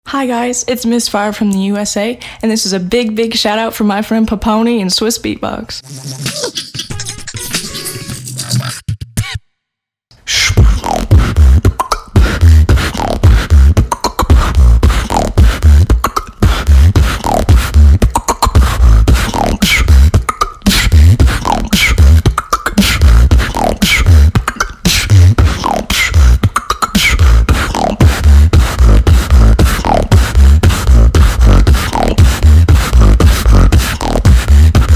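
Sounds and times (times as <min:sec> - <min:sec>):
beatboxing: 0:05.8 - 0:09.4, 0:10.1 - 0:34.9.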